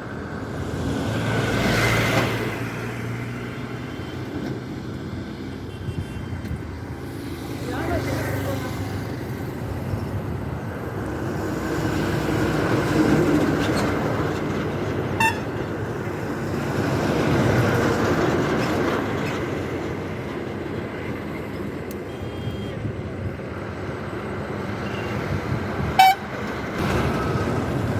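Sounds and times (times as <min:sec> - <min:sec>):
vehicle traffic rumble: 0:00.0 - 0:27.9.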